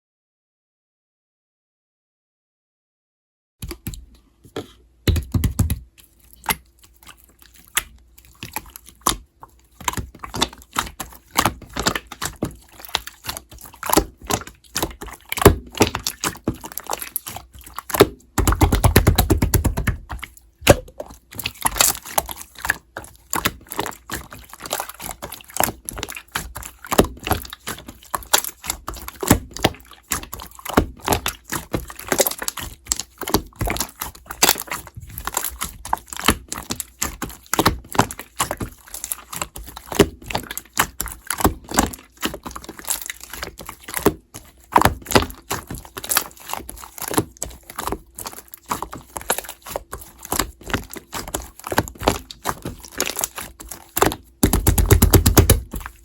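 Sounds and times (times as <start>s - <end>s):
slime squelch: 3.6s - 56.0s.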